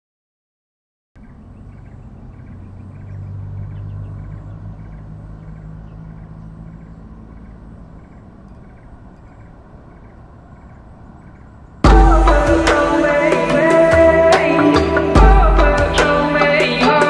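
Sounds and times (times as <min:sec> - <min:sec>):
passing car engine hum: 0:01.2 - 0:17.0.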